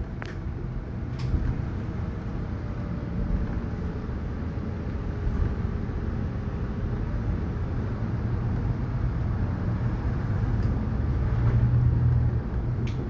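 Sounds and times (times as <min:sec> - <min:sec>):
bus engine low rumble: 0:00.0 - 0:13.0.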